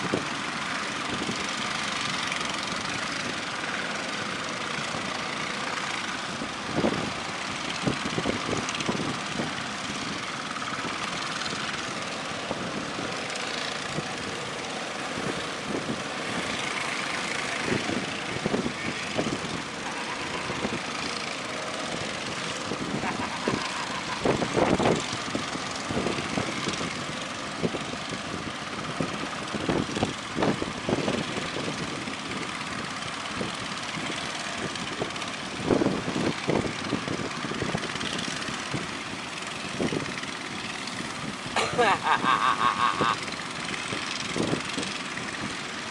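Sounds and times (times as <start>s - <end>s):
motorboat engines running: 0.0s - 45.9s
wind: 0.0s - 45.9s.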